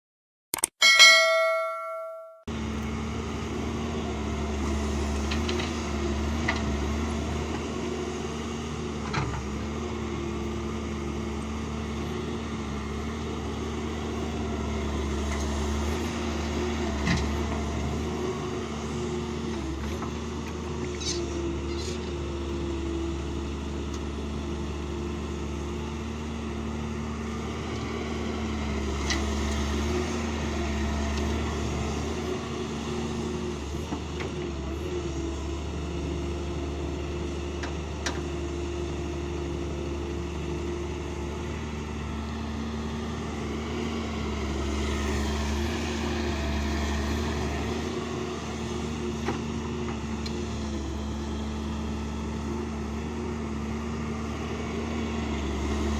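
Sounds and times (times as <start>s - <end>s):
excavator diesel engine running: 2.5s - 55.9s.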